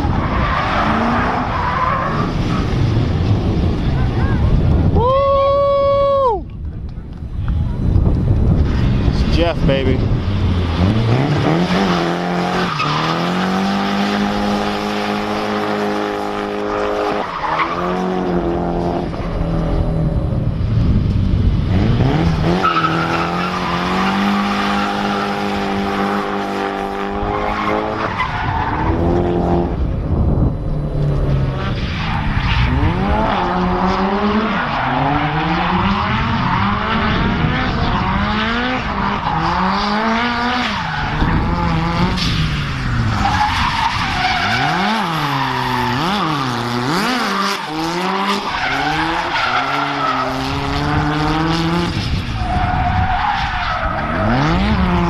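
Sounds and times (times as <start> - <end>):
drift car engine revving: 0.0 - 4.5, 8.6 - 20.2, 21.4 - 30.1, 30.8 - 55.0
tyres skidding and squealing: 0.0 - 6.4, 8.6 - 29.9, 30.6 - 55.0.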